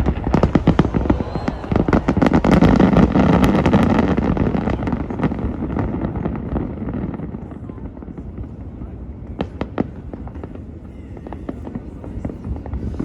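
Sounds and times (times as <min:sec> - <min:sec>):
fireworks cracks and bangs: 0:00.0 - 0:13.0
rumbling fireworks barrage: 0:00.0 - 0:13.0.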